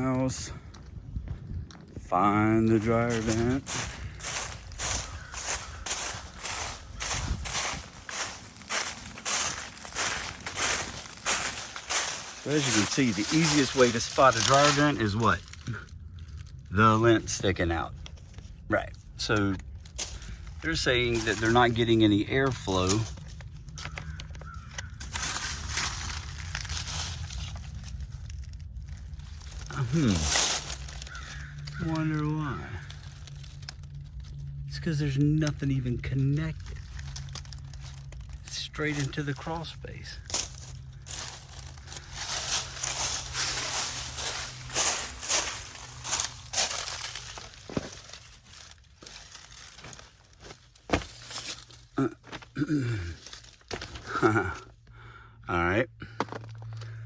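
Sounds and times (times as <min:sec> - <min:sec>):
crunching and crackling: 0:00.0 - 0:54.9, 0:56.0 - 0:57.0
steady low hum: 0:00.0 - 0:57.0
person crawling scuffling and crinkling: 0:00.8 - 0:16.5, 0:17.9 - 0:34.6, 0:35.8 - 0:54.8.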